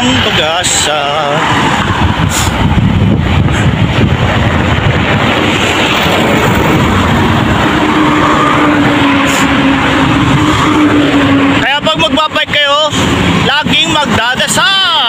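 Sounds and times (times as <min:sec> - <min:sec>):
cars and trucks passing: 0:00.0 - 0:15.0
steady engine drone: 0:00.0 - 0:15.0
wind rumble on microphone: 0:00.0 - 0:15.0.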